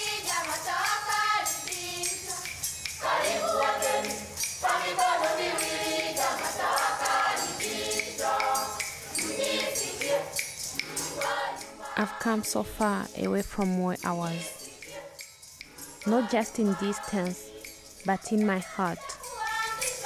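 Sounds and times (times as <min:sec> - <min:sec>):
children's choir singing: 0:00.0 - 0:20.0
steady percussive beat: 0:00.0 - 0:20.0.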